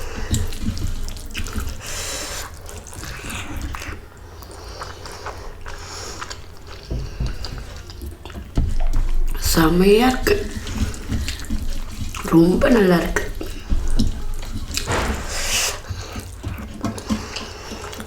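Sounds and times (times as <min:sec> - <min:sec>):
chewing and wet mouth sounds: 0:00.0 - 0:18.0.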